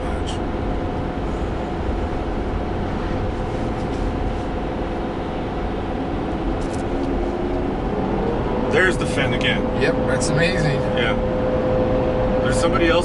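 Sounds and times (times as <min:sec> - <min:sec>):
diesel engine droning: 0:00.0 - 0:13.0
road noise: 0:00.0 - 0:13.0.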